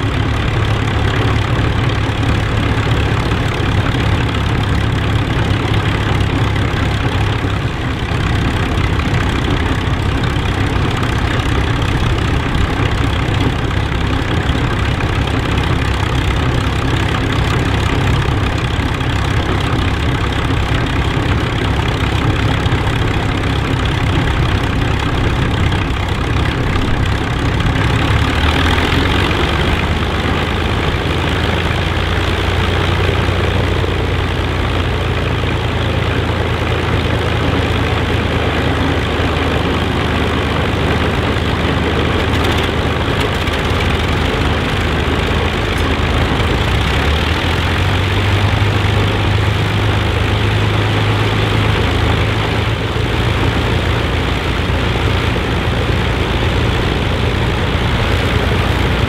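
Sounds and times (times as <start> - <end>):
aircraft engines idling: 0.0 - 59.0.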